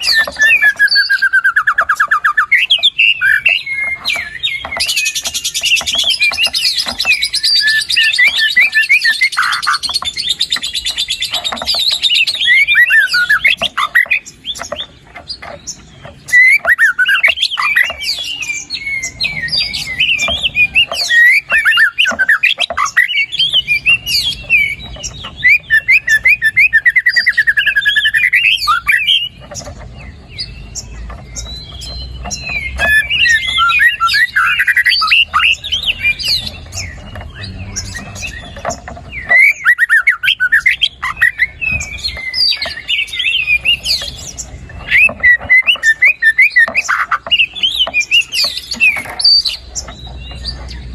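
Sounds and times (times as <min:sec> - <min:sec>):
songbird singing varied whistles and trills: 0:00.0 - 0:50.9.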